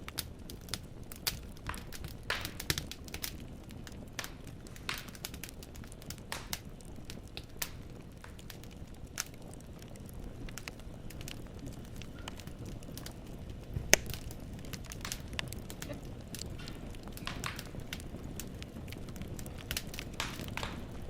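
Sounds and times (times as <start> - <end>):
wood fire crackling in fireplace: 0.0 - 21.0
loud pop of burning log: 1.2 - 21.0.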